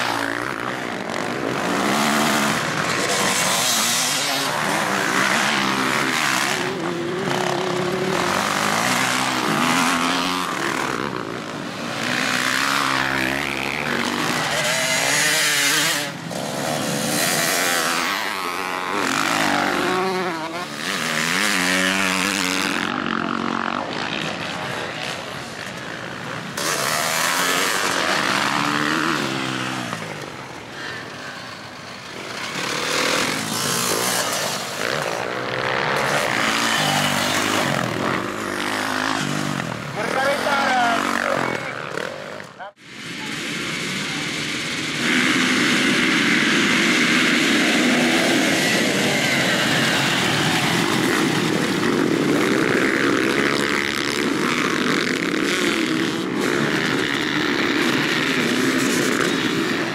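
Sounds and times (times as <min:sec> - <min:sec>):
bikes passing close by: 0:00.0 - 0:59.9
dirt bike engines revving: 0:00.0 - 0:59.9.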